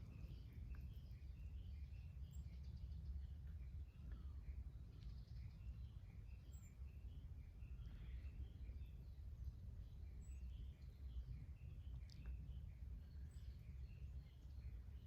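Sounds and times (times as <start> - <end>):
faint bird chirps: 0.0 - 15.0
steady low rumble: 0.0 - 15.0.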